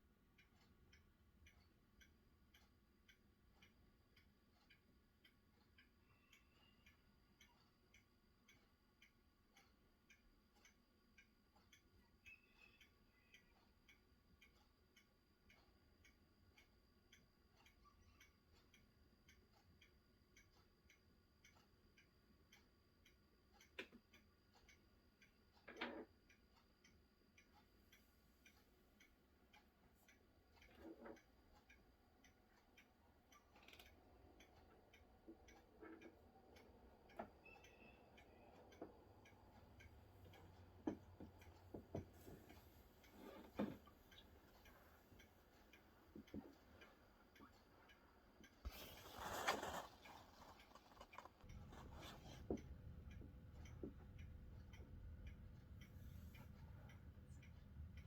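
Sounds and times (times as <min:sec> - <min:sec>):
faint regular ticking: 0:00.0 - 0:58.0.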